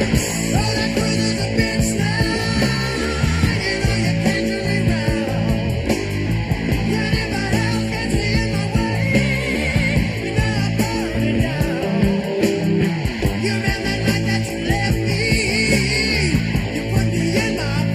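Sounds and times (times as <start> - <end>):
person singing: 0.0 - 6.0, 6.6 - 17.9
drums: 0.0 - 17.9
electric guitar: 0.0 - 17.9.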